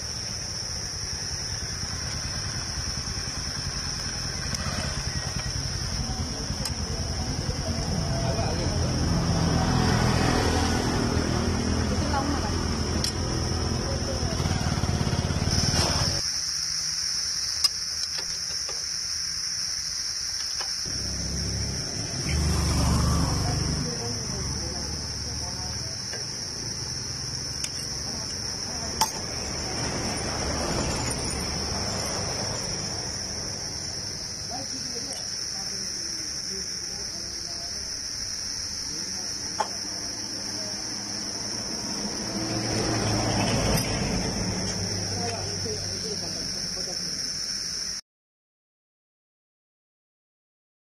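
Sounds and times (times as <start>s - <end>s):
high-pitched insect chirring: 0.0s - 9.8s, 11.2s - 48.0s.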